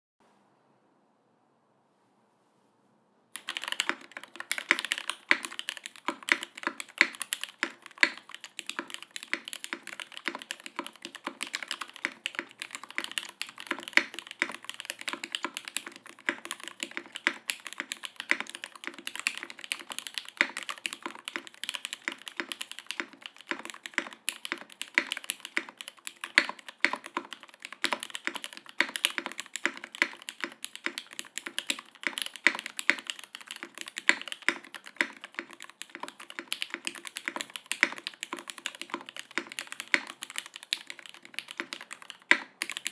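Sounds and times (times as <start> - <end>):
mechanical keyboard typing: 3.4 - 42.9.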